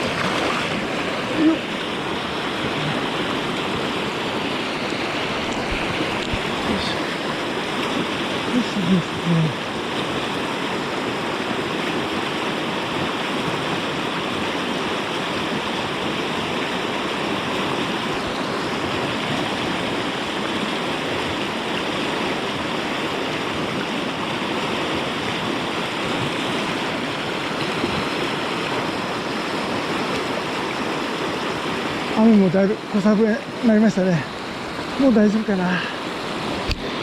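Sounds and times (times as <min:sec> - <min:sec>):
river current rushing: 0:00.0 - 0:37.0.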